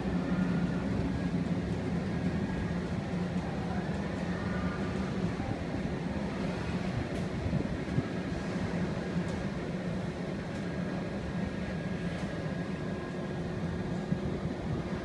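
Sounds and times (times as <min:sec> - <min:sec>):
mechanical hum and rumble: 0:00.0 - 0:15.0.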